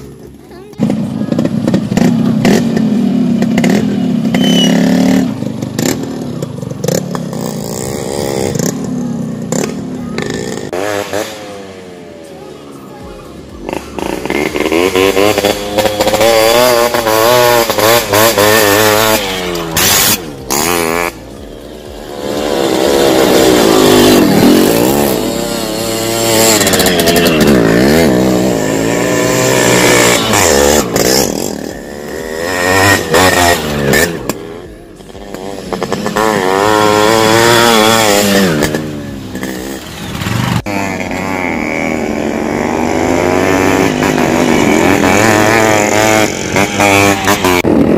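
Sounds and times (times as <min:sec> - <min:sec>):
motorcycles revving past: 0:00.0 - 0:12.6, 0:13.3 - 0:47.9.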